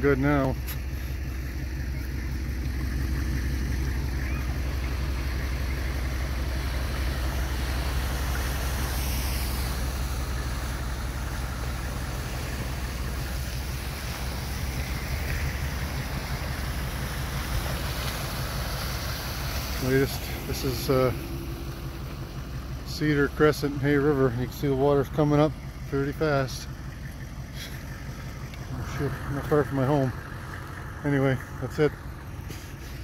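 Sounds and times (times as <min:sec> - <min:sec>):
floodwater rushing over street: 0:00.0 - 0:33.0
low hum: 0:00.0 - 0:33.0.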